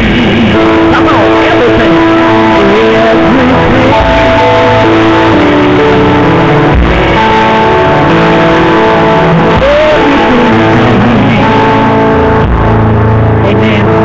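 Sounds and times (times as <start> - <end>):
worship music with guitar: 0.0 - 14.0.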